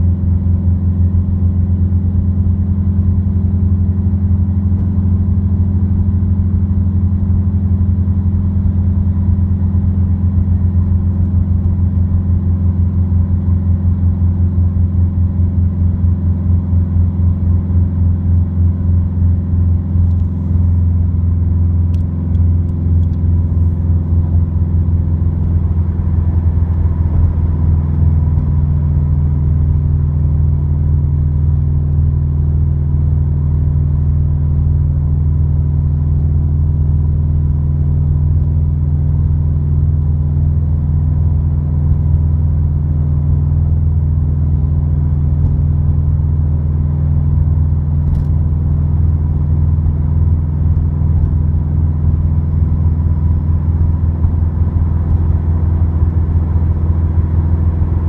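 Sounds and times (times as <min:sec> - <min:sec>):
car exhaust drone from inside: 0:00.0 - 0:58.0.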